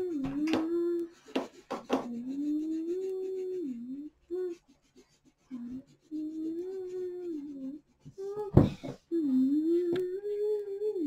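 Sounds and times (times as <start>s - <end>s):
child humming: 0.0s - 1.2s, 2.0s - 4.8s, 5.5s - 11.0s.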